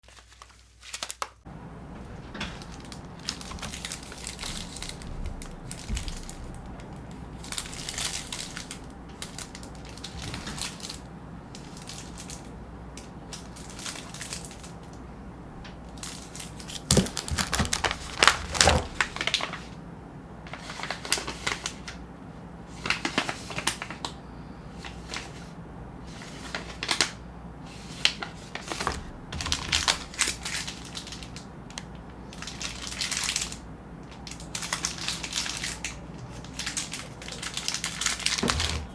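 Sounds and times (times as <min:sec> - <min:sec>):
plastic wrappers crinkling: 0:00.0 - 0:01.4, 0:02.0 - 0:15.0, 0:15.6 - 0:19.8, 0:20.4 - 0:22.0, 0:22.7 - 0:25.5, 0:26.1 - 0:38.9.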